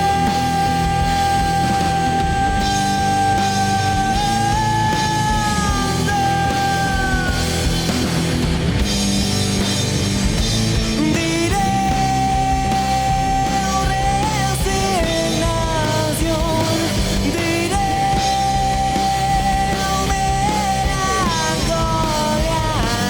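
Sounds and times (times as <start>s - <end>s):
distorted rock band music: 0.0s - 23.0s.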